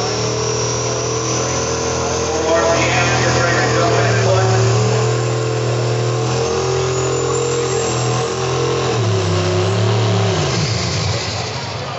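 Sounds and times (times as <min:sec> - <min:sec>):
tractor engine under full load: 0:00.0 - 0:11.9.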